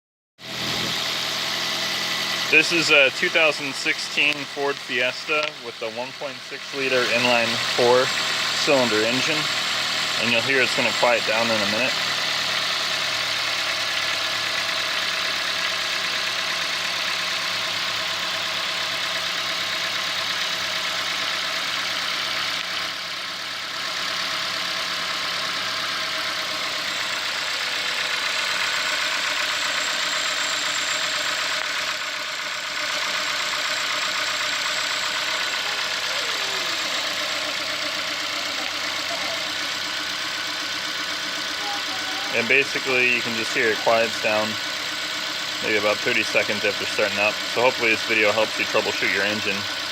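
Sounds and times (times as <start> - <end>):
car engine idling: 0.4 - 49.9.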